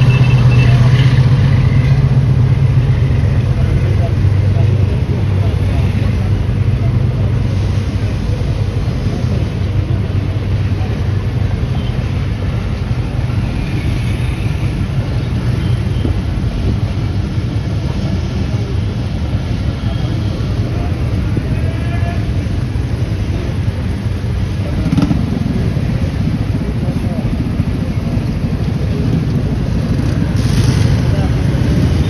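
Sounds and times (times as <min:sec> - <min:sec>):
road noise: 0:00.0 - 0:32.0
vehicle engine humming: 0:00.0 - 0:32.0.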